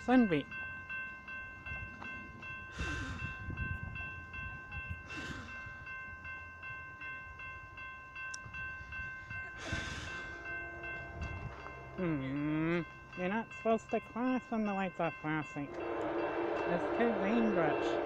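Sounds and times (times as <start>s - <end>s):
railroad crossing bell ringing: 0.0s - 18.0s.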